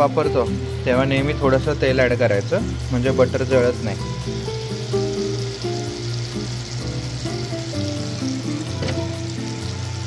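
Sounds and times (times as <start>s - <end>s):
background music with held notes: 0.0s - 10.0s
butter sizzling in a pan: 0.6s - 10.0s.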